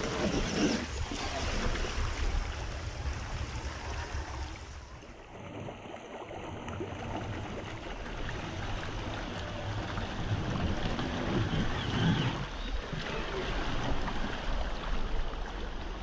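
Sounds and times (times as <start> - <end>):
stream rushing: 0.0 - 16.0
water splashing around wheels: 0.0 - 16.0.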